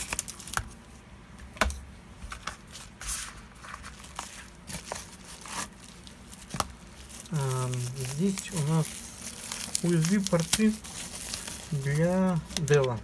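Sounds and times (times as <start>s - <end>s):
packaging crinkling and tearing: 0.0s - 0.8s, 2.8s - 13.0s.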